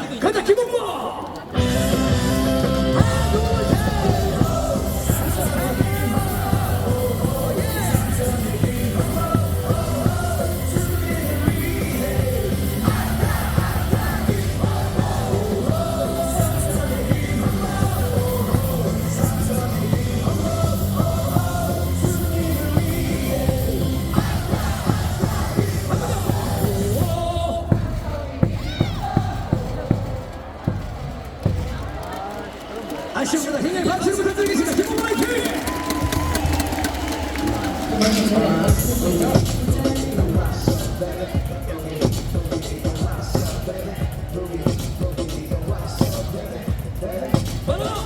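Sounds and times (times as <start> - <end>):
crowd singing and shouting: 0.0 - 48.0
rock cheer song over loudspeakers: 1.3 - 30.8, 31.5 - 48.0
loud amplified music: 1.4 - 48.0
steady drum beat: 1.6 - 48.0.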